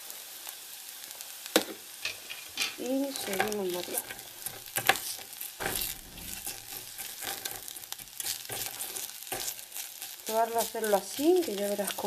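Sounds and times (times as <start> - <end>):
rice sizzling in oil: 0.0 - 12.0
spatula scraping and tapping pan: 2.0 - 12.0.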